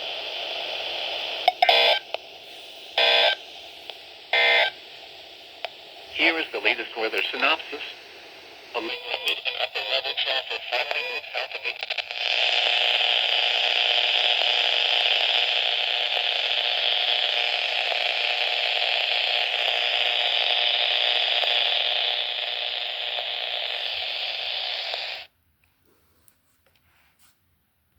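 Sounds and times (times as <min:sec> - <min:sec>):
radio static hiss: 0:00.0 - 0:25.3.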